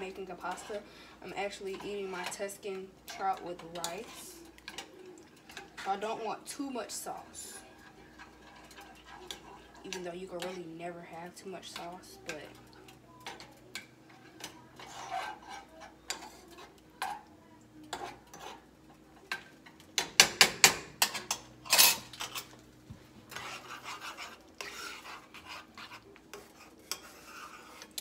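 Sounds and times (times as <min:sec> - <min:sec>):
metal spoon scraping a skillet: 0:00.0 - 0:22.6, 0:23.2 - 0:28.0.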